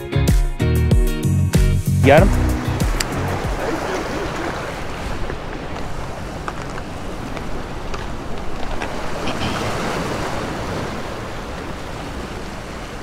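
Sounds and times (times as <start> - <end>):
surf splashing against rocks: 2.1 - 13.0
wind buffeting microphone: 2.5 - 13.0.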